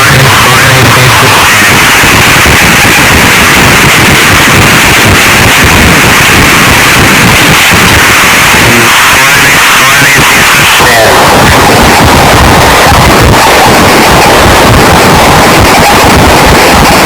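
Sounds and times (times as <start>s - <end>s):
harsh distorted noise music: 0.0s - 17.0s.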